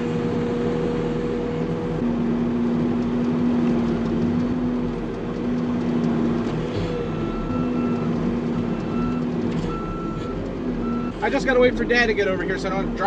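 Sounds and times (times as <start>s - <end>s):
farm machine engine droning: 0.0s - 13.0s.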